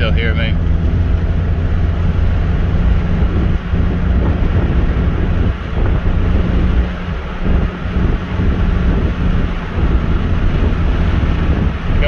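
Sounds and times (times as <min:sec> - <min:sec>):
car engine droning: 0:00.0 - 0:12.0
road noise: 0:00.0 - 0:12.0
wind noise on microphone: 0:00.0 - 0:12.0.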